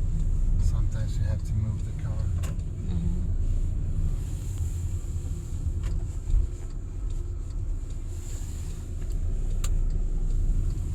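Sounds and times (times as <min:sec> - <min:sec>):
car cabin rumble: 0:00.0 - 0:10.9.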